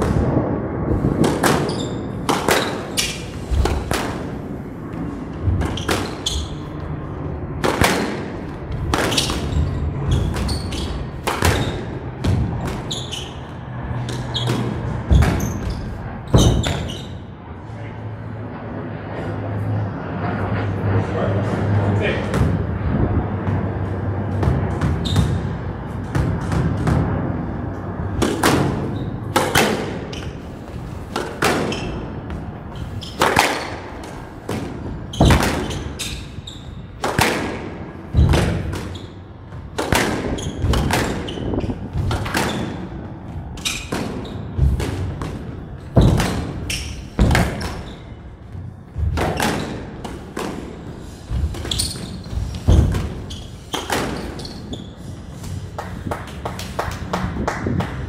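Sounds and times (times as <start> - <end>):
squash ball hitting rackets and walls: 0.0 - 17.6, 21.4 - 58.0.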